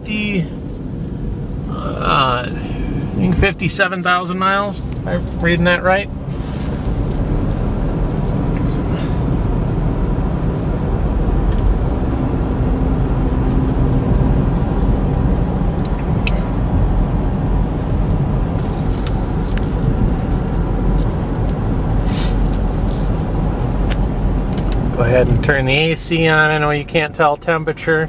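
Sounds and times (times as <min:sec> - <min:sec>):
road and engine noise inside car: 0:00.0 - 0:28.0.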